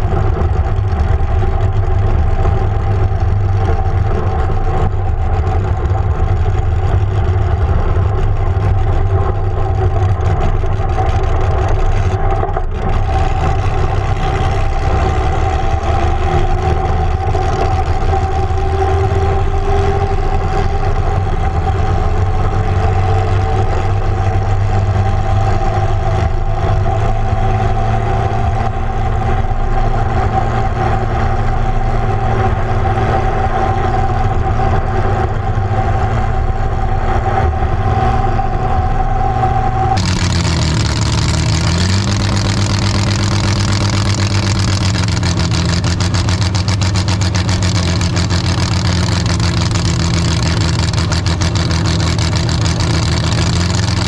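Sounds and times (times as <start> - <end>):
straight-six engine running at low revs: 0.0 - 54.0.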